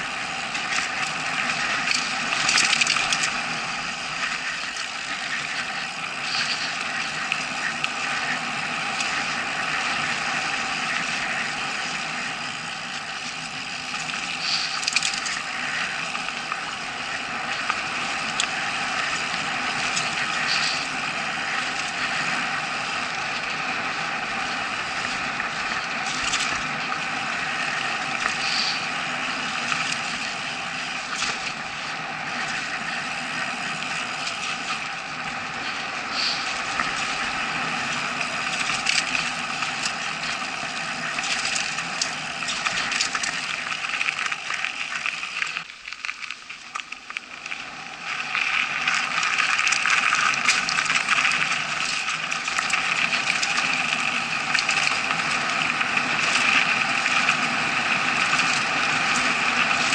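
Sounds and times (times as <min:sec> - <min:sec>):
bike rattling: 0:00.0 - 0:59.9
bike tyres rolling on dirt: 0:00.0 - 0:59.9.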